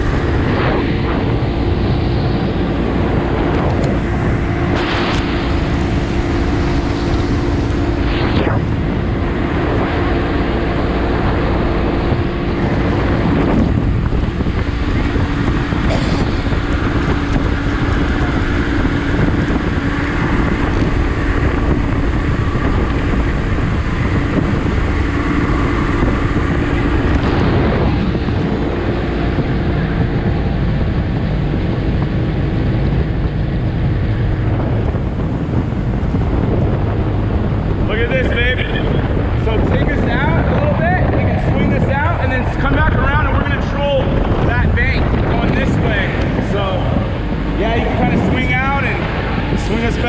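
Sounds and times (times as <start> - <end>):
outboard motor running: 0.0 - 50.0
wind buffeting microphone: 0.0 - 50.0.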